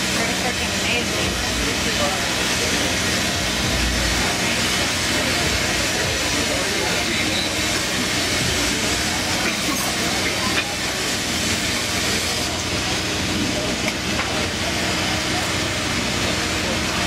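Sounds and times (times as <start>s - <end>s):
torch burning with a hiss: 0.0s - 17.0s.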